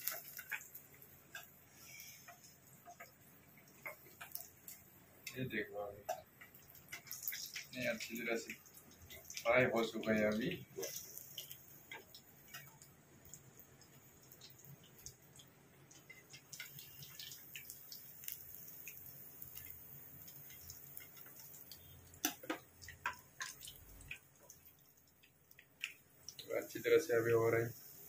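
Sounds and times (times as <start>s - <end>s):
hot oil sizzling in frying pan: 0.0s - 28.0s.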